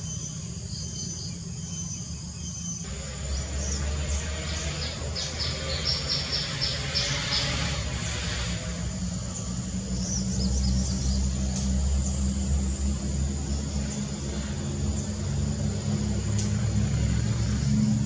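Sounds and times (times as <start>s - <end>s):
high insect drone: 0.0s - 18.0s
vehicle engine running: 2.7s - 18.0s.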